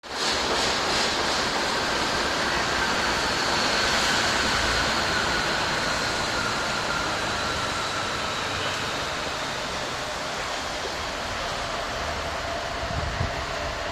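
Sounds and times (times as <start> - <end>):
rail vehicle rushing on track: 0.0 - 13.9.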